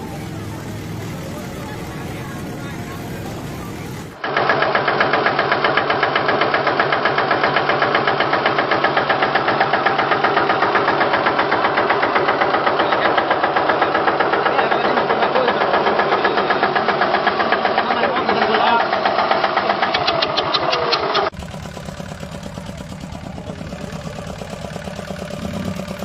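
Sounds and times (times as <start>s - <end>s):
engine idling with pulsing beat: 0.0s - 26.0s.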